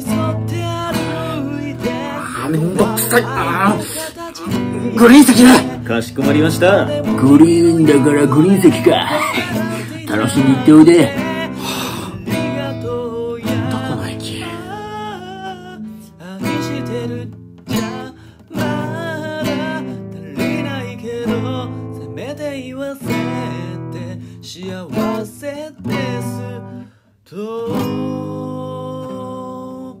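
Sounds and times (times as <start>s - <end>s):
strummed acoustic guitar melody: 0.0s - 30.0s.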